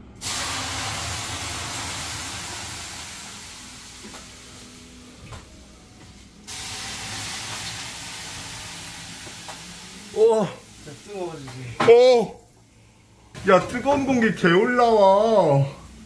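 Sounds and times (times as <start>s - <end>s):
water hissing on hot sauna stones: 0.0s - 16.0s.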